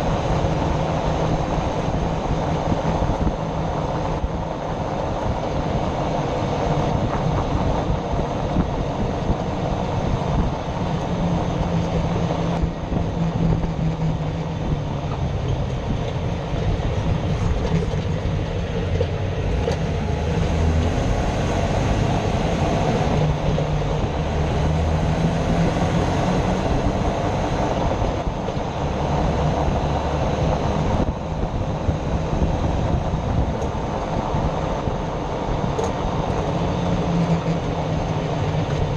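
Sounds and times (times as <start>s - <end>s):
tyre and drivetrain rumble: 0.0s - 38.9s.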